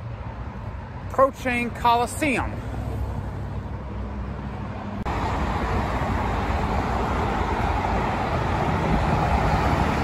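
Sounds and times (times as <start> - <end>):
car engine and road noise: 0.0 - 10.0
hissy road and traffic noise: 0.0 - 10.0.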